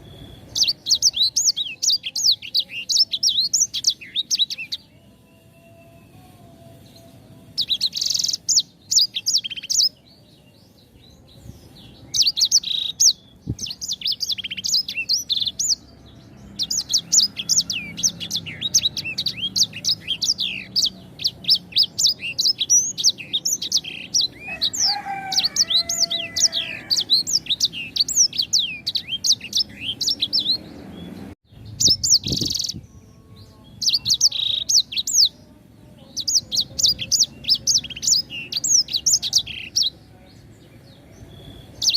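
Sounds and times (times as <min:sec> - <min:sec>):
songbird chirping: 0:00.0 - 0:41.9.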